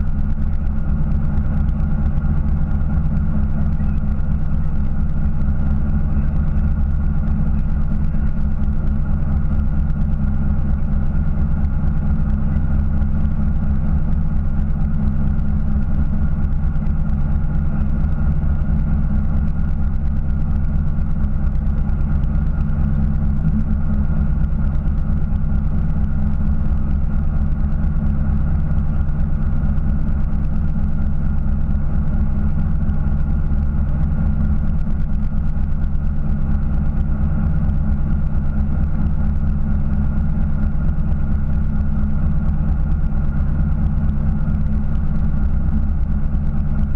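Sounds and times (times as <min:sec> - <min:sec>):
boat engine idling: 0:00.0 - 0:46.9.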